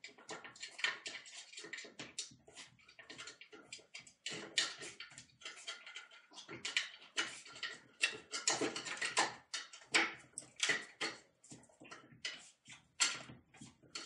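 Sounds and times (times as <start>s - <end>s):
cat scraping and knocking on tiles: 0.3s - 14.0s.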